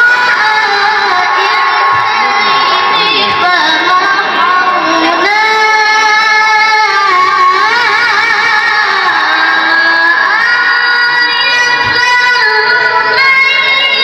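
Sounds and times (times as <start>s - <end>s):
boy reciting melodically: 0.0s - 14.0s.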